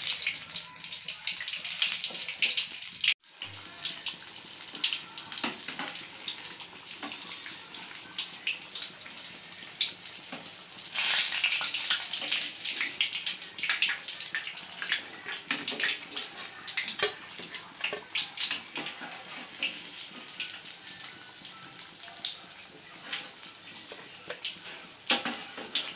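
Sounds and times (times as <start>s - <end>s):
deep-frying sizzle with crackles: 0.0s - 25.9s.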